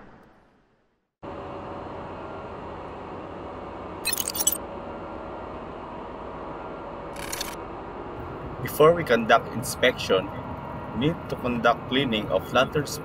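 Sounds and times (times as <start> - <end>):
engine room machinery noise: 1.2 - 13.0.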